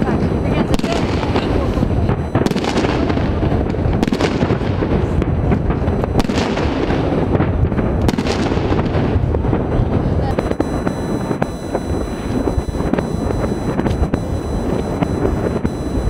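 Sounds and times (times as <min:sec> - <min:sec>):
fireworks bangs and crackles: 0:00.0 - 0:16.0
sharp firework reports: 0:00.0 - 0:16.0.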